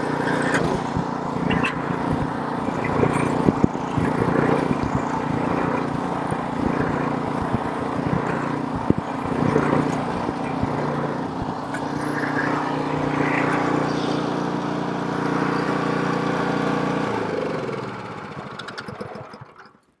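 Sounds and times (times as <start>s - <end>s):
snowblower engine running: 0.0s - 19.9s.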